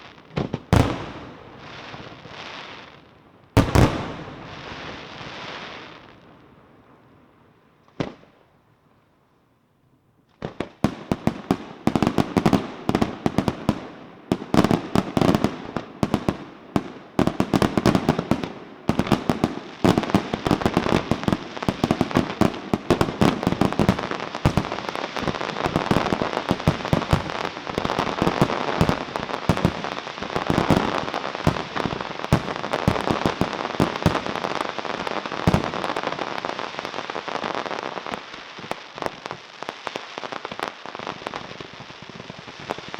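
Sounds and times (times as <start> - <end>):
crackle of fireworks: 0.0 - 9.2, 10.2 - 42.9.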